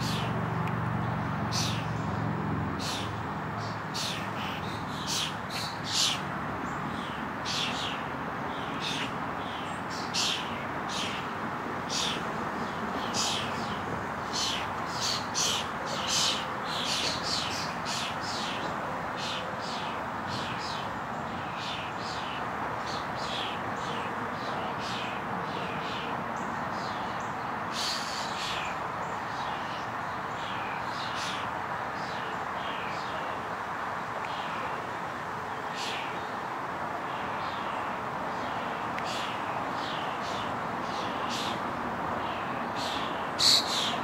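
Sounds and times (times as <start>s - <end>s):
city traffic hum: 0.0s - 44.0s.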